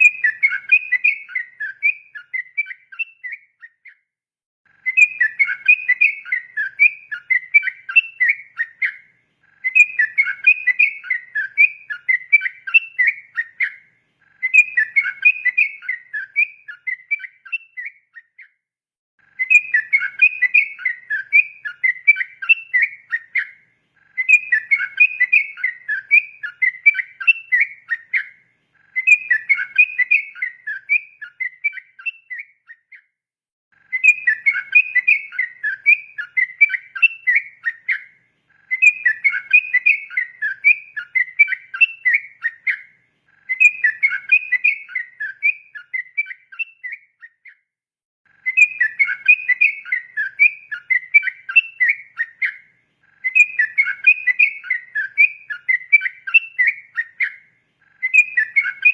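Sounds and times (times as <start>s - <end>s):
bulbul singing: 0.0s - 4.1s, 4.7s - 18.6s, 19.2s - 33.1s, 33.8s - 47.6s, 48.3s - 58.9s.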